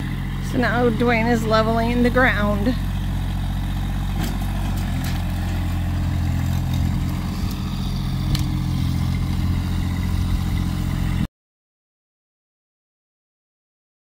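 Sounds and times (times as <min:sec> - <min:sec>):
tractor diesel engine running: 0:00.0 - 0:11.3.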